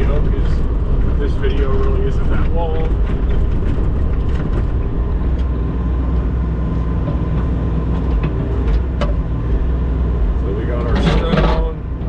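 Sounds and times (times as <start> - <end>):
large engine running steadily: 0.0 - 12.0.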